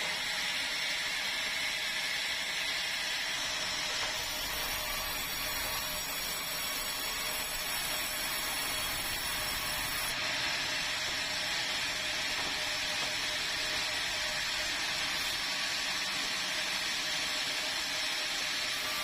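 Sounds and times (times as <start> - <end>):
sawmill saw cutting timber: 0.0 - 19.0.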